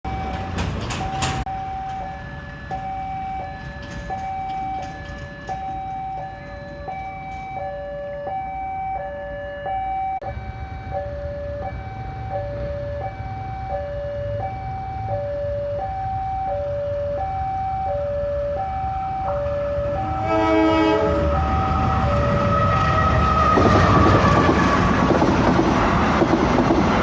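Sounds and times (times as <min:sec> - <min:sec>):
level crossing alarm tones: 0:00.1 - 0:25.0.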